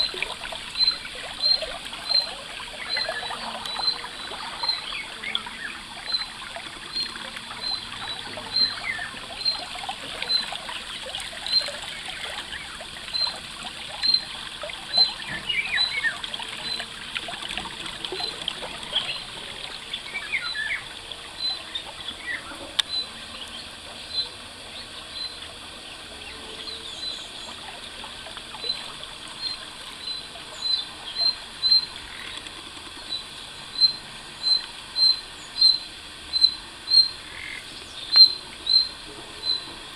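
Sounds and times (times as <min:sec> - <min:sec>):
bird chirping: 0:00.0 - 0:13.4, 0:14.9 - 0:16.9, 0:18.2 - 0:25.4, 0:28.6 - 0:32.4, 0:33.0 - 0:39.7
stream trickling over stones: 0:00.0 - 0:39.9.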